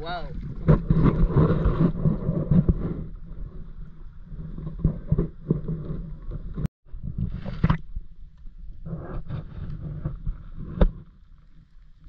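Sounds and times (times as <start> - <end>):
wind rumble on microphone: 0.0 - 11.6.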